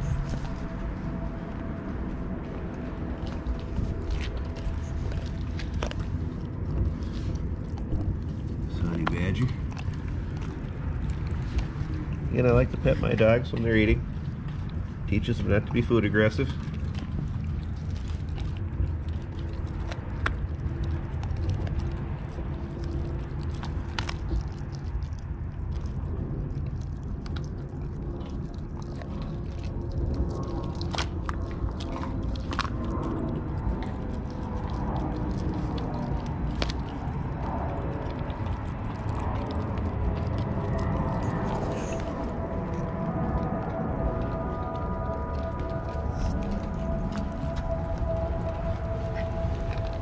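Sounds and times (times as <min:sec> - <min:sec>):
bones crunching: 0:00.0 - 0:50.0
low rumble: 0:00.0 - 0:50.0
puppy chewing wet fish: 0:00.0 - 0:50.0.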